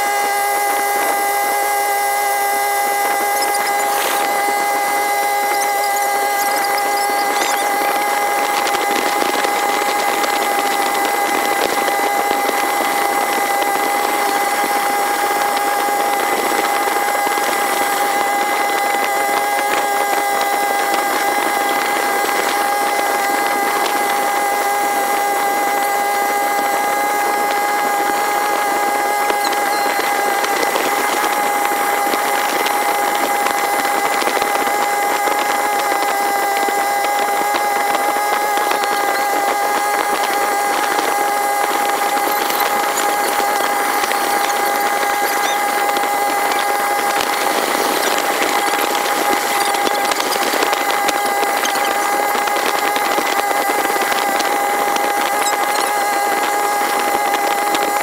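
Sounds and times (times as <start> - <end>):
boat engine high-pitched drone: 0.0 - 58.0.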